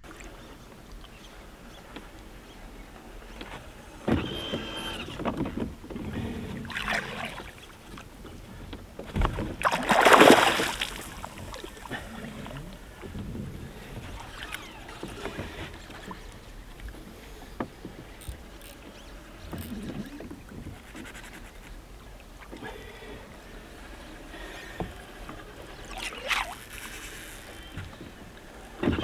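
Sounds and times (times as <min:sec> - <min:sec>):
water noise: 0:00.0 - 0:29.0.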